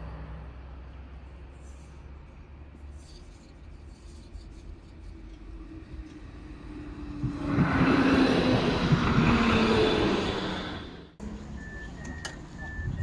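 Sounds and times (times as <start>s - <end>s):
tram wheels rolling on rails: 0.8s - 13.0s.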